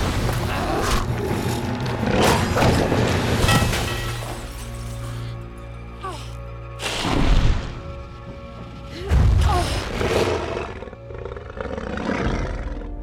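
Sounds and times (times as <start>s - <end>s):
dramatic orchestral film score: 0.0s - 13.0s.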